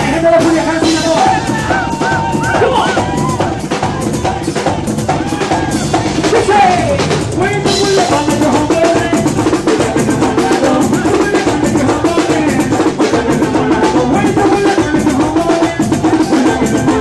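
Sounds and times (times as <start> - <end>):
fast drumming: 0.0 - 17.0
live band playing dance music: 0.0 - 17.0.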